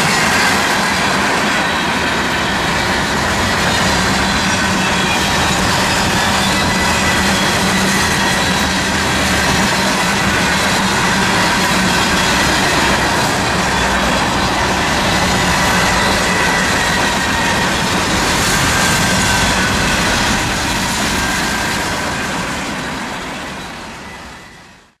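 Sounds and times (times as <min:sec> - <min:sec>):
train wheels rolling on rails: 0:00.0 - 0:25.0.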